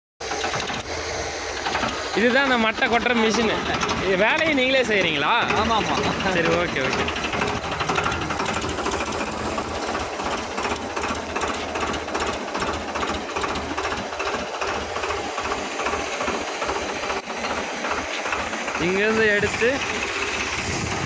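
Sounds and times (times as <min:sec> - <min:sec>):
tractor diesel engine knocking: 0:00.2 - 0:21.0.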